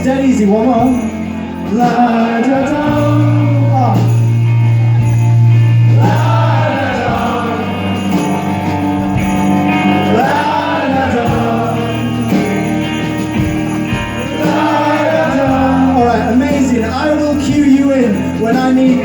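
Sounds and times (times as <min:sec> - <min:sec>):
amplified guitar chords: 0:00.0 - 0:19.0
audience singing along: 0:01.4 - 0:17.0.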